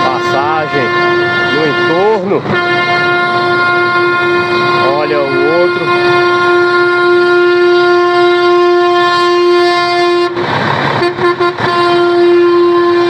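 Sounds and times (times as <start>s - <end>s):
steady horn-like tone: 0.0s - 13.0s.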